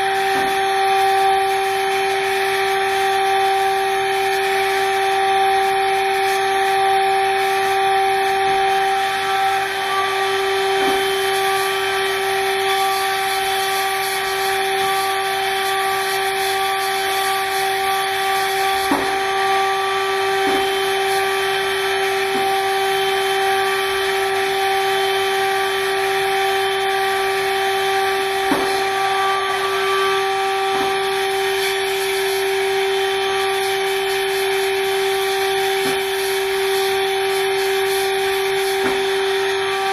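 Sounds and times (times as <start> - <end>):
machining spindle whine and hiss: 0.0 - 39.9.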